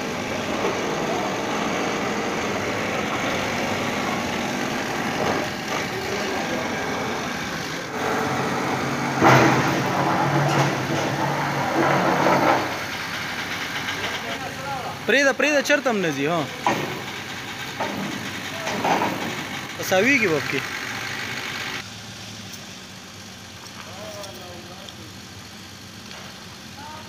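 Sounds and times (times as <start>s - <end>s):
machinery running: 0.0s - 23.6s.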